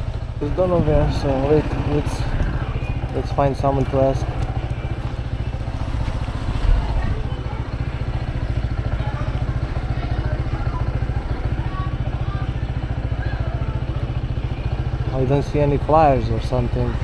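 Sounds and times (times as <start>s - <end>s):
motorbike engine idling: 0.0s - 17.0s.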